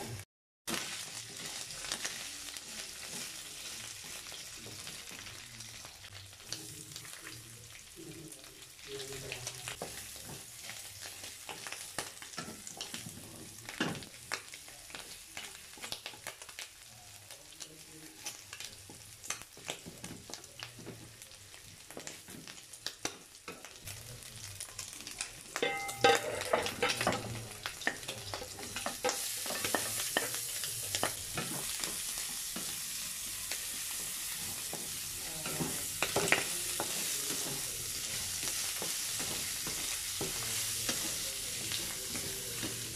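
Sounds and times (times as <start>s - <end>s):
meat sizzling in oil: 0.0s - 42.9s.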